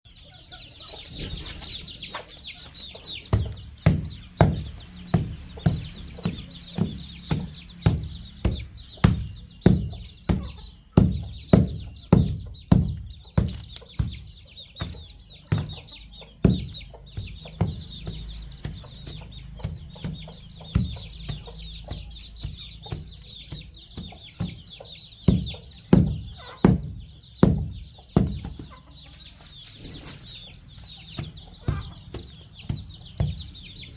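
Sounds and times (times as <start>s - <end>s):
chicks peeping: 0.0s - 33.9s
chickens clucking: 0.1s - 33.9s
pecking knocks: 2.1s - 29.0s, 30.6s - 33.9s.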